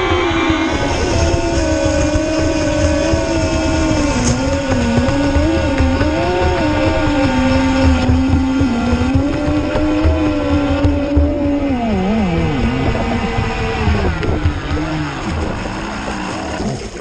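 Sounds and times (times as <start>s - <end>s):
low rumble: 0.0s - 17.0s
model boat motor whine: 0.0s - 17.0s.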